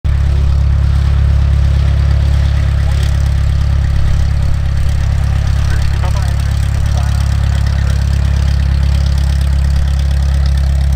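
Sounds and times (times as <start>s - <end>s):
light aircraft engine droning: 0.1s - 10.9s.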